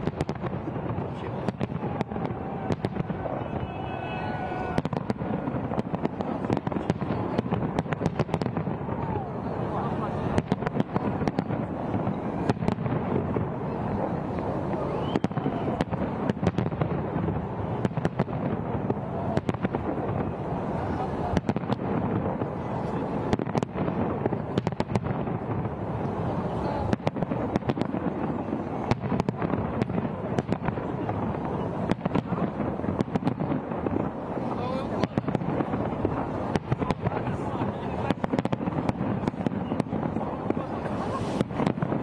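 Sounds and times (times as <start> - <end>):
crowd voices: 0.0 - 42.0
fireworks bangs: 0.0 - 42.0.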